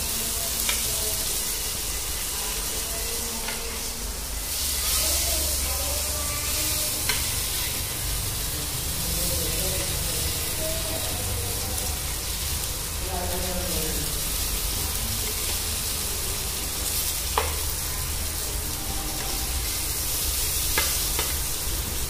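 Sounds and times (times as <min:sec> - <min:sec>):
eggplant sizzling in oil: 0:00.0 - 0:22.0.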